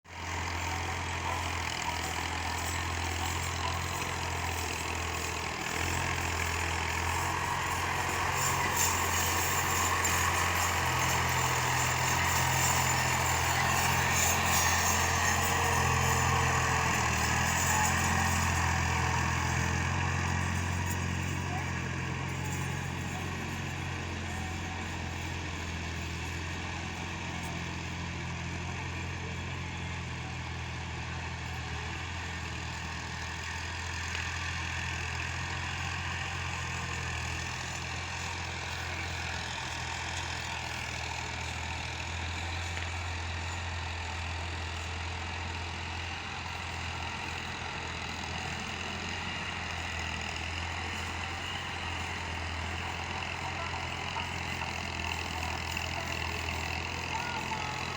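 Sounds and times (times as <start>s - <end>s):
tractor diesel engine idling: 0.0s - 57.9s.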